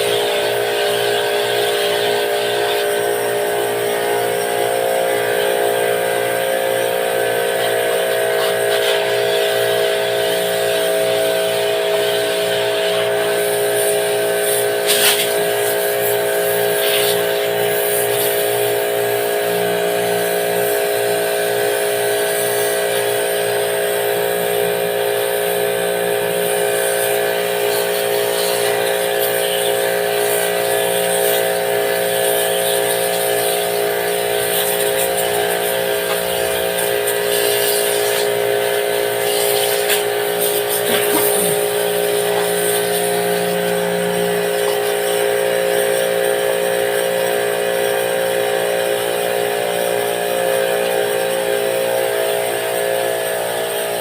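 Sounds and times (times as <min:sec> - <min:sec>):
hissing water spray: 0:00.0 - 0:54.0
pressure washer motor hum: 0:00.0 - 0:54.0.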